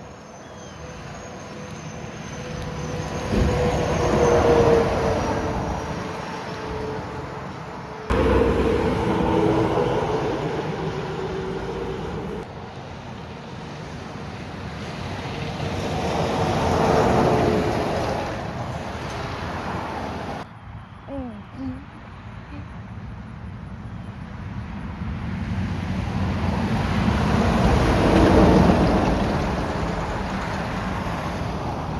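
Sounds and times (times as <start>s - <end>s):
road traffic with trucks passing: 0.0s - 31.9s.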